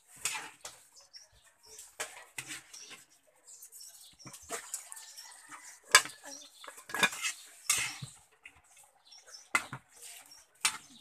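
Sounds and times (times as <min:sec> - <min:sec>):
spatula scraping wok: 0:00.0 - 0:11.0.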